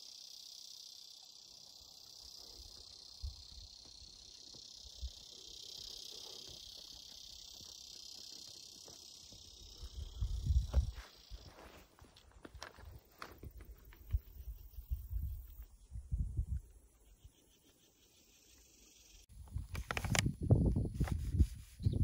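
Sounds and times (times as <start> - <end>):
insects chorus: 0.0 - 21.2.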